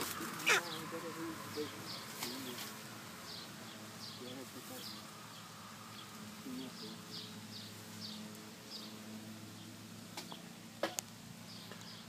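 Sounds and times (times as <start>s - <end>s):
small bird chirping: 0.0s - 10.5s, 11.4s - 12.0s.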